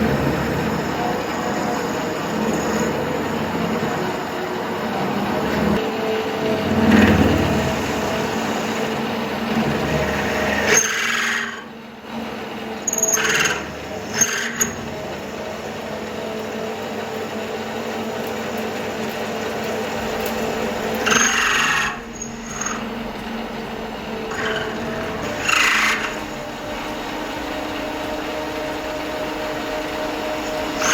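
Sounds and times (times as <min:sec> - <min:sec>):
harsh metal cutting noise: 0:00.0 - 0:30.9
lathe motor hum: 0:00.0 - 0:30.9.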